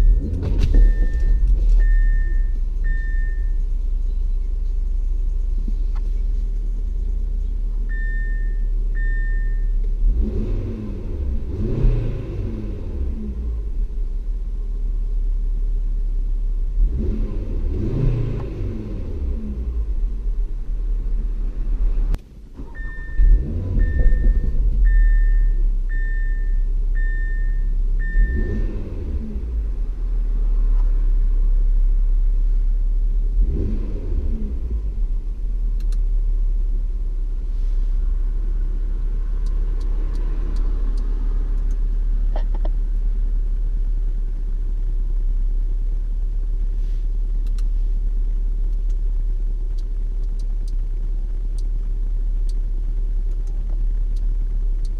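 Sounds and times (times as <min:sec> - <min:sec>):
car engine revving and idling: 0:00.0 - 0:54.9.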